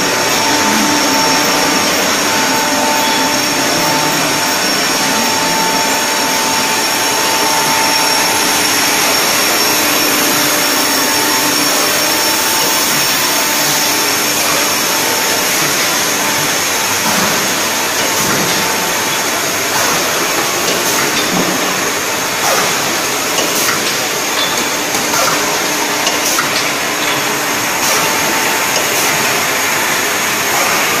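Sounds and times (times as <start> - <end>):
machine whirring with high whine: 0.0 - 31.0.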